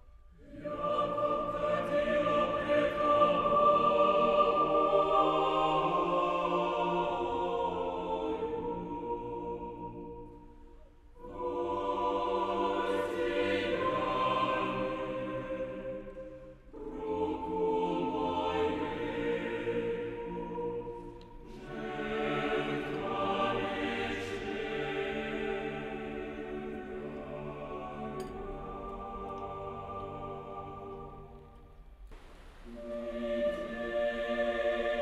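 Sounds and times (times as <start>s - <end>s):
choir-like background music: 0.0s - 35.0s.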